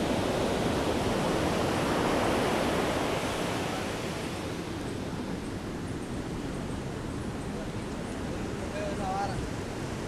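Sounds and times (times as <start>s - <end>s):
waves washing ashore: 0.0s - 10.0s.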